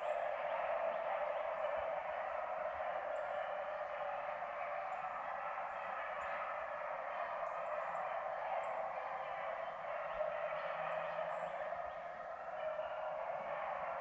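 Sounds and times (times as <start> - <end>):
distant beagles baying: 0.0 - 14.0.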